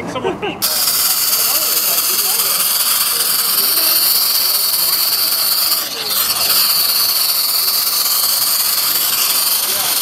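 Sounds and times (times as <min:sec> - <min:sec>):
model steam locomotive hissing: 0:00.6 - 0:10.0.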